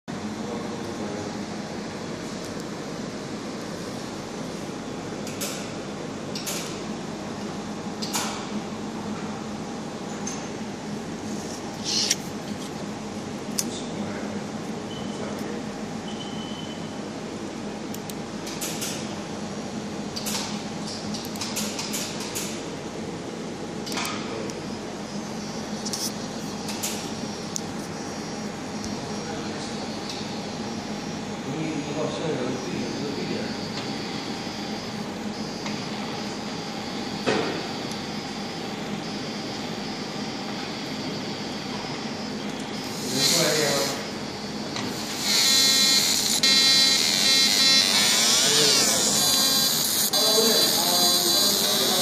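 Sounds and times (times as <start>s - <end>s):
machine fan hum: 0.1s - 52.0s.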